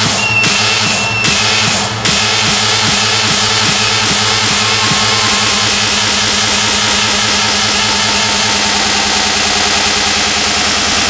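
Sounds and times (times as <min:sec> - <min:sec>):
fast electronic dance music: 0:00.0 - 0:11.0.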